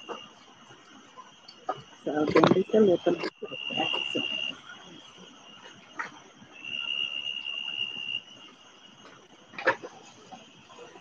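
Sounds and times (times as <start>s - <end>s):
loud level insect trill: 0.0s - 11.0s
night insects trilling: 0.0s - 11.0s.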